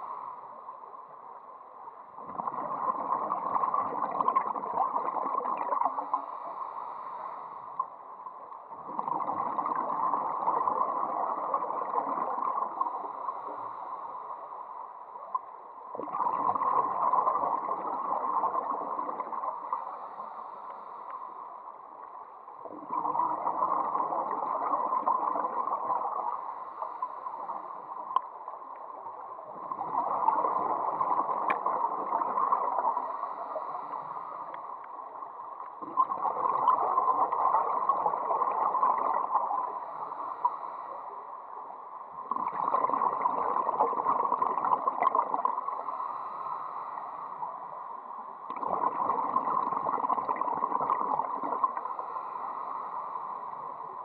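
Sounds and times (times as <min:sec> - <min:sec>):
underwater gurgling and bubbling: 0:02.0 - 0:08.0, 0:08.6 - 0:14.5, 0:15.2 - 0:21.2, 0:21.9 - 0:41.3, 0:42.0 - 0:54.0.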